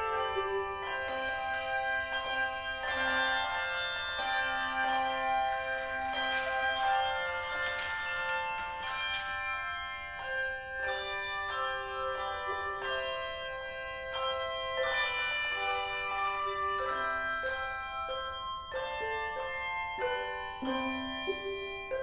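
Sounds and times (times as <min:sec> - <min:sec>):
handbell choir ringing: 0:00.0 - 0:22.0.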